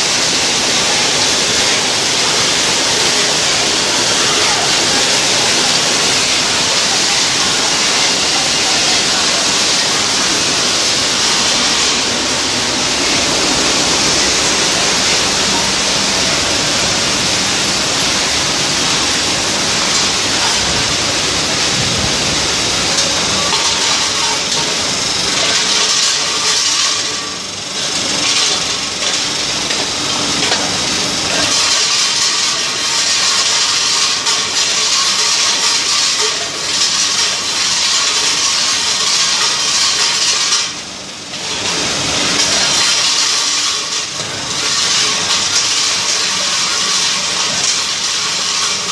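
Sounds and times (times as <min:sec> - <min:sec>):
machinery hissing din: 0:00.0 - 0:48.9.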